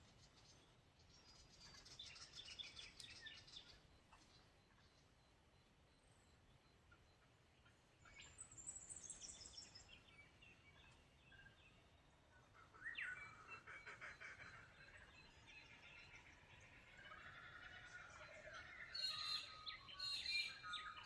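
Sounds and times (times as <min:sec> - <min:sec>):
faint birds chirping and calling: 0:00.0 - 0:21.0.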